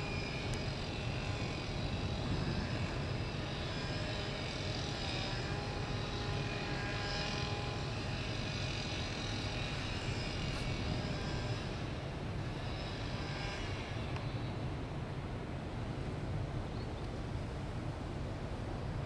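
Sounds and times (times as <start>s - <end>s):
low mechanical hum: 0.0s - 19.0s
steady whining tones: 0.0s - 19.0s.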